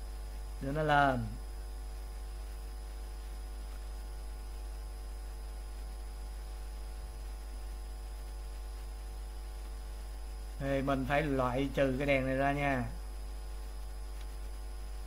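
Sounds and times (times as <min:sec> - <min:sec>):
electrical mains hum: 0:00.0 - 0:15.0
light hiss: 0:00.0 - 0:15.0.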